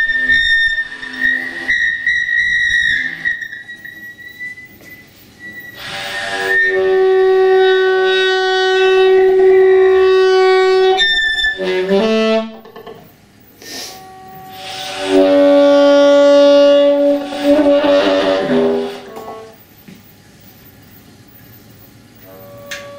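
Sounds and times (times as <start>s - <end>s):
long held wind instrument notes: 0.0s - 12.7s, 13.9s - 19.6s, 22.2s - 22.9s.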